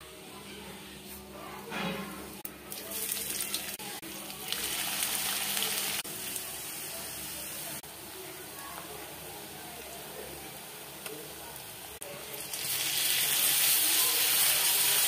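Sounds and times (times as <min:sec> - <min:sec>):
onions sizzling in hot oil: 0:02.7 - 0:15.0.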